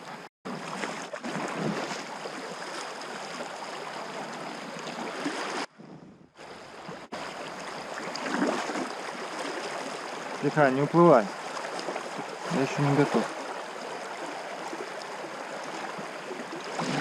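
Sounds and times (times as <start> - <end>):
river water rushing: 0.5 - 5.7, 6.7 - 17.0.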